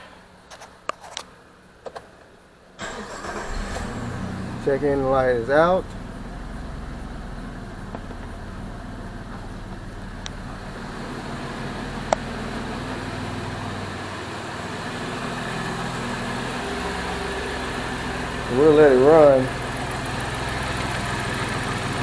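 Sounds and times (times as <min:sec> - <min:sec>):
car engine idling: 0:02.8 - 0:22.0.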